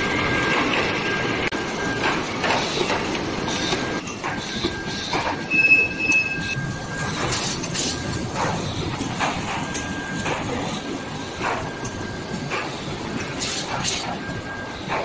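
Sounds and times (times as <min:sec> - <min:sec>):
machine clacks: 0:00.0 - 0:05.5, 0:06.1 - 0:15.0
machinery running: 0:00.0 - 0:15.0.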